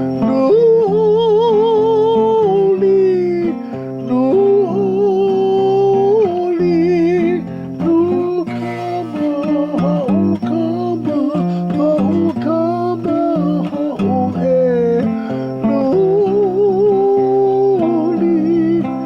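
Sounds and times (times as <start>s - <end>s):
person singing a hymn: 0.0s - 19.0s
strummed acoustic guitar: 0.0s - 19.0s.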